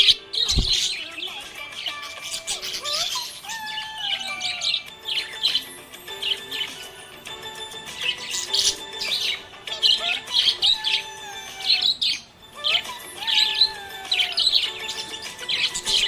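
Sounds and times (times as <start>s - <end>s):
budgerigar chirping and warbling: 0.0s - 16.0s.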